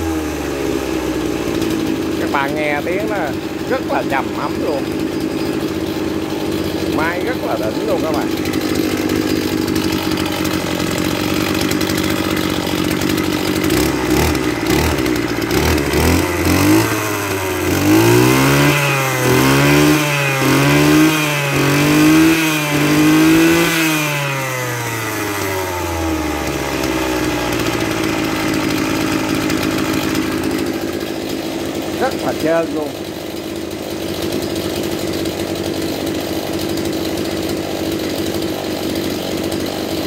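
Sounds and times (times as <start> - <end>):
brush cutter engine revving: 0.0 - 40.0.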